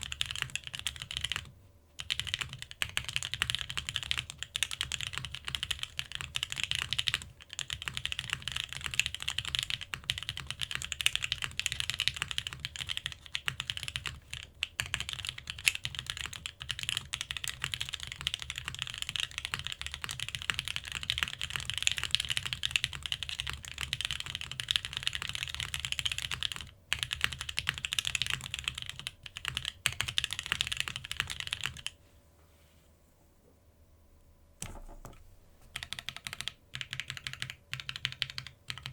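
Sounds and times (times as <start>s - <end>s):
typing on mechanical keyboard: 0.0s - 32.0s, 34.6s - 38.9s.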